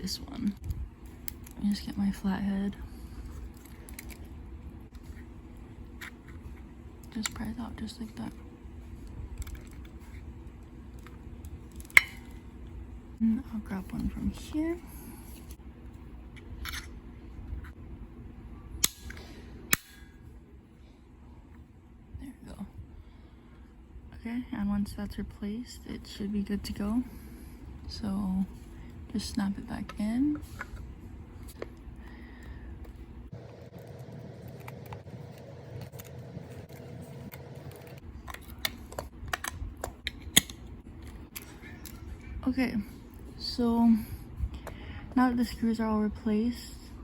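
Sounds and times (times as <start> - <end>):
low hum: 0.0 - 47.0.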